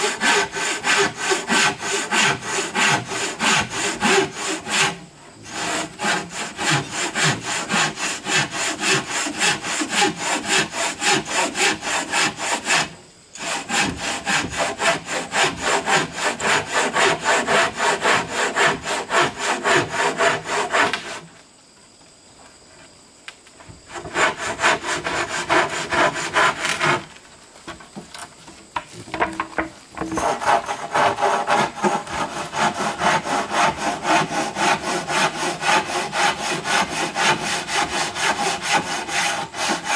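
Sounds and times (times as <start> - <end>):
hand saw cutting wood: 0.0 - 21.3, 23.9 - 27.2, 30.0 - 39.9.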